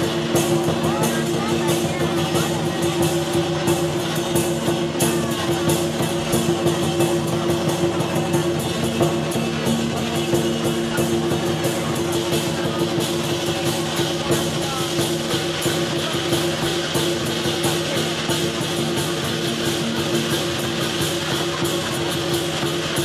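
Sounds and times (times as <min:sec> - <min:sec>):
cymbals clashing: 0:00.0 - 0:23.0
large drum beating: 0:00.0 - 0:23.0.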